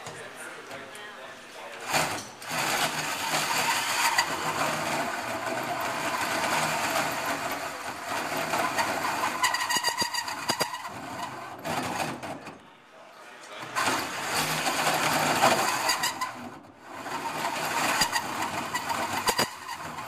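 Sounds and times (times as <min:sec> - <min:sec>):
power drill grinding through metal: 0:01.8 - 0:12.5, 0:13.8 - 0:20.0.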